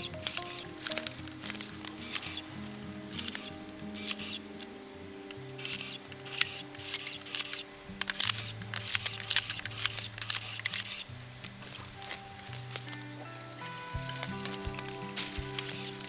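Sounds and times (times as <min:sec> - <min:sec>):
background music with low notes: 0:00.0 - 0:16.0
sharp crackles and snaps: 0:00.0 - 0:16.0.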